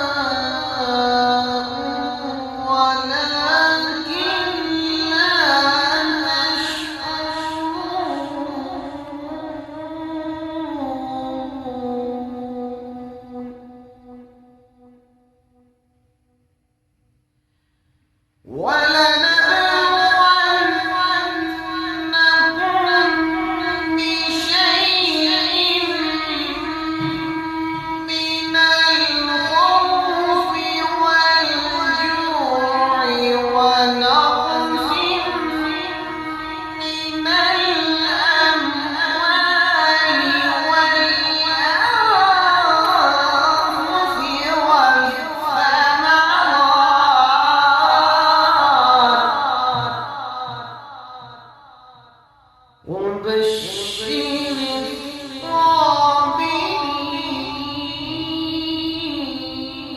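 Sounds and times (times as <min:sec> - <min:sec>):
melodic recitation by high voice: 0:00.0 - 0:15.4, 0:18.5 - 0:52.2, 0:52.8 - 0:59.9.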